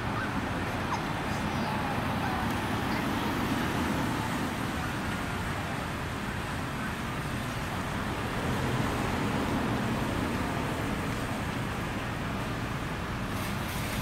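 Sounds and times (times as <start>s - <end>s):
fire engine rolling by: 0.0s - 14.0s.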